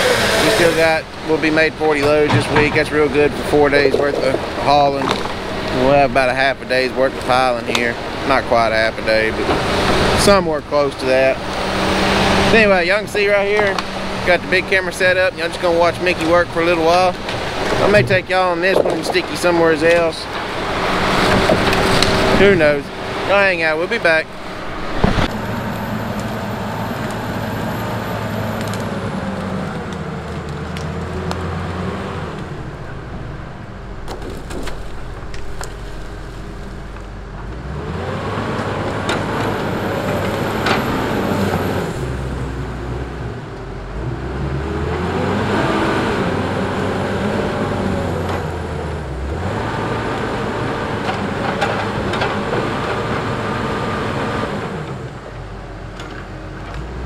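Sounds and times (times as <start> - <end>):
diesel engines revving: 0.0 - 57.0.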